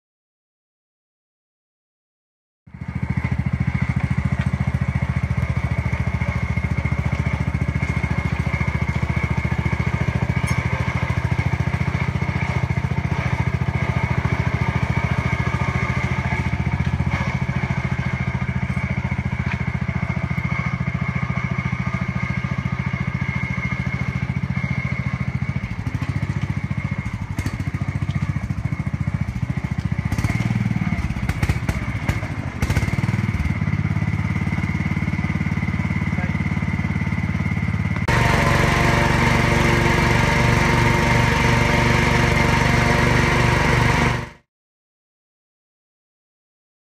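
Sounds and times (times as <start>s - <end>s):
tractor engine running: 2.7s - 44.4s.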